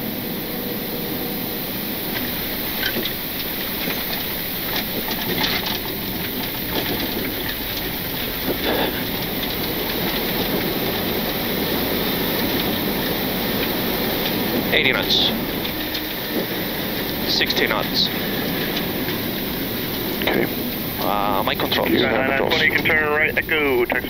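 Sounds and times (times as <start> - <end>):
airplane landing rumble: 0.0 - 24.0
scattered knocks and clicks: 2.1 - 24.0.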